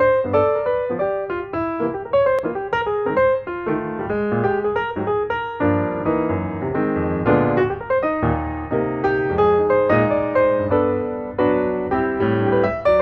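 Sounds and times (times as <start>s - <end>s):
instrumental piano music: 0.0s - 13.0s.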